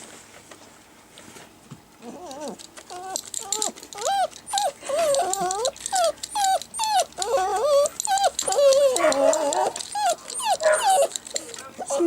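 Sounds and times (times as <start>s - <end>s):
puppy whining: 2.0s - 12.0s.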